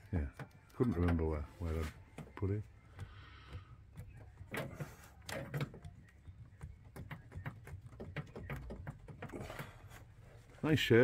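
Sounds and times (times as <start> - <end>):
plastic pipes clicking and knocking: 0.0 - 10.8.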